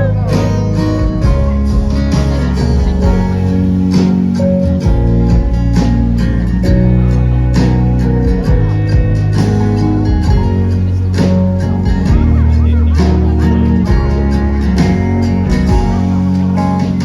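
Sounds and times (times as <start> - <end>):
strummed acoustic guitar: 0.0 - 17.0
sustained bass notes: 0.0 - 17.0.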